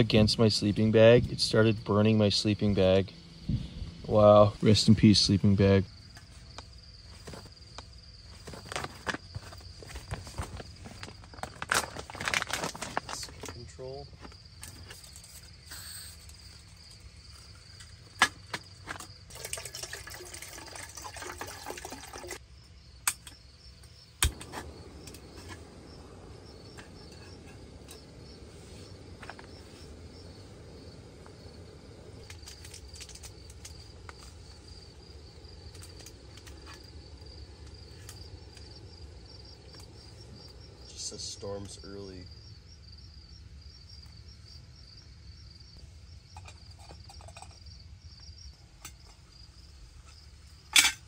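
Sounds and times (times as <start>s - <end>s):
stove burner hissing: 0.0s - 22.4s, 23.0s - 42.3s
crickets chirping: 0.0s - 51.0s.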